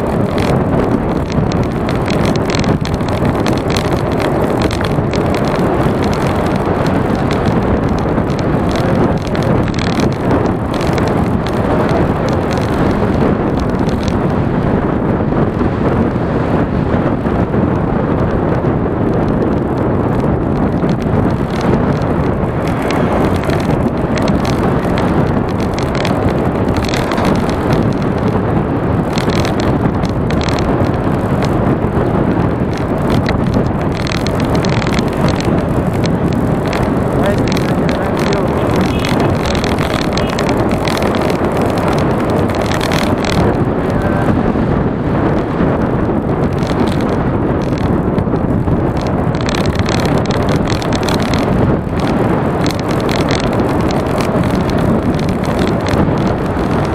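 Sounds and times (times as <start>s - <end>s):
road noise: 0.0s - 56.9s
wind buffeting microphone: 0.0s - 56.9s.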